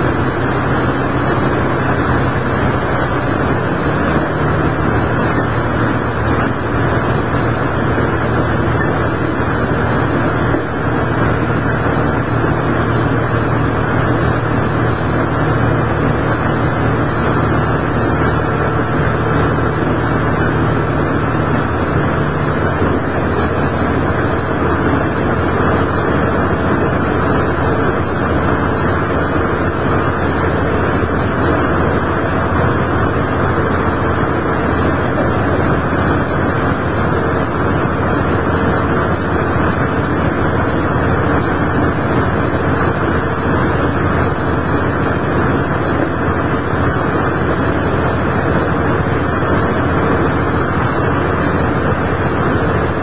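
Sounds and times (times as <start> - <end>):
low diesel engine drone: 0.0 - 53.0
railcar running noise inside cabin: 0.0 - 53.0.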